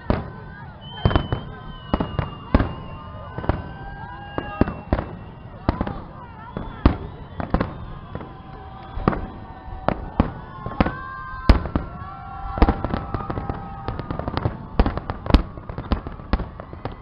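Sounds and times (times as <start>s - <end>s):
fireworks bangs and cracks: 0.0s - 17.0s
long steady tones: 0.0s - 17.0s.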